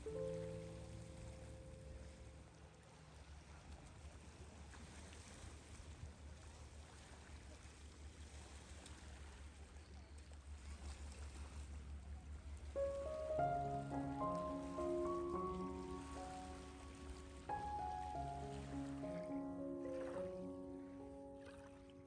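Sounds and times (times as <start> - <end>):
low rumbling surf: 0.0 - 22.0.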